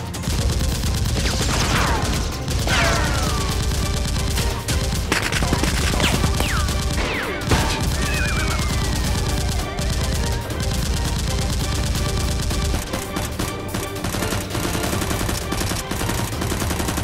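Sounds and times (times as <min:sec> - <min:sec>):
rapid gunfire bursts: 0:00.0 - 0:17.0.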